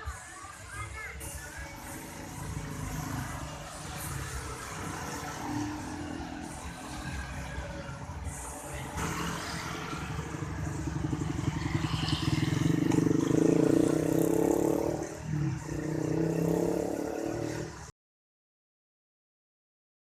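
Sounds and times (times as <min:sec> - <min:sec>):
vehicle engine passing by: 0:01.2 - 0:17.9.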